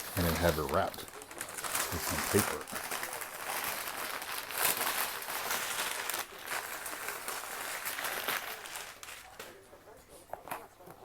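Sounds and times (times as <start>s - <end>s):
packing paper crinkling: 0.0s - 11.0s.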